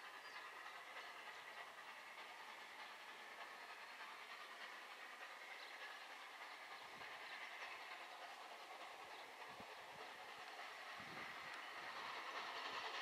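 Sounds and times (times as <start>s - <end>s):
distant steam locomotive: 0.0s - 13.0s.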